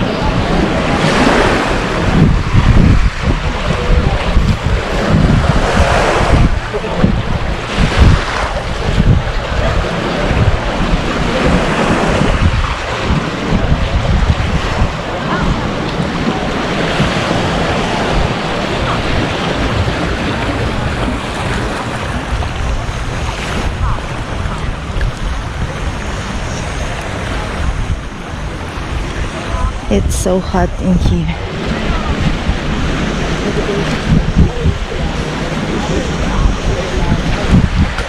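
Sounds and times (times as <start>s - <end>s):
sea waves on beach: 0.0s - 38.0s
wind buffeting microphone: 0.0s - 38.0s.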